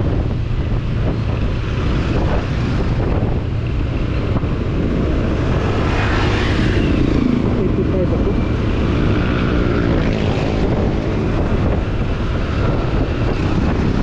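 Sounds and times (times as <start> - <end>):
scooter engine and road rumble: 0.0 - 14.0
wind rushing over microphone: 0.0 - 14.0.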